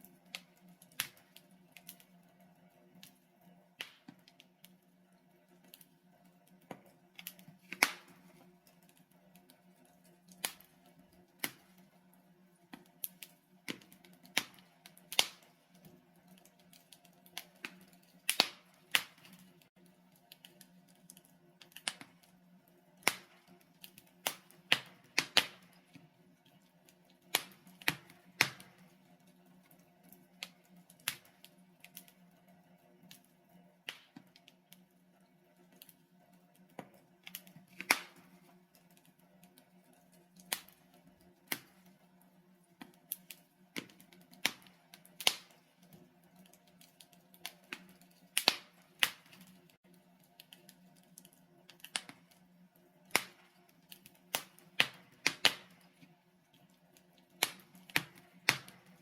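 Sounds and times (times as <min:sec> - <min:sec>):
logs crackling and popping: 0:00.0 - 0:59.0.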